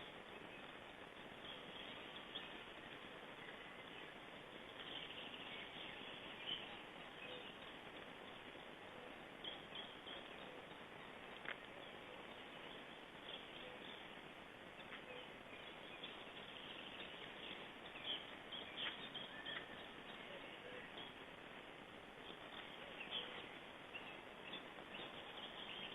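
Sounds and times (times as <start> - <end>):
small birds chirping: 0.0 - 25.9
steady hiss: 0.0 - 25.9.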